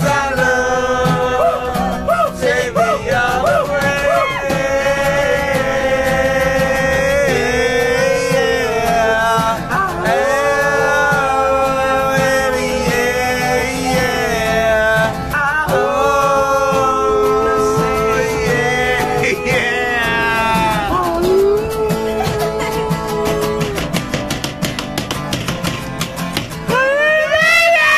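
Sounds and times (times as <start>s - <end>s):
man singing long held notes: 0.0s - 24.0s
acoustic guitar strumming: 0.0s - 27.9s.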